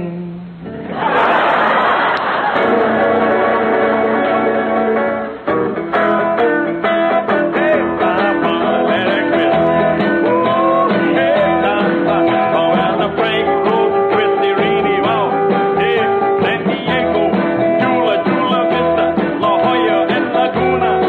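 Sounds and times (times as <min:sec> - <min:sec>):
guitar notes and chords: 0:00.0 - 0:01.1, 0:02.2 - 0:21.0.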